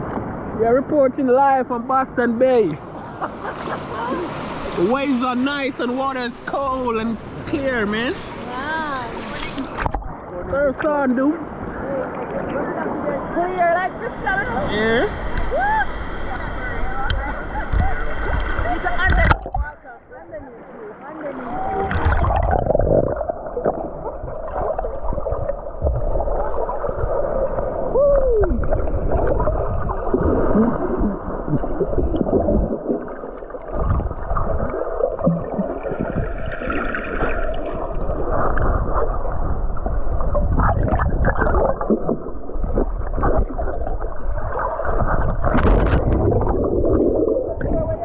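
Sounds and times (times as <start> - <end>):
muffled water sloshing: 2.8 - 13.7, 15.2 - 48.0.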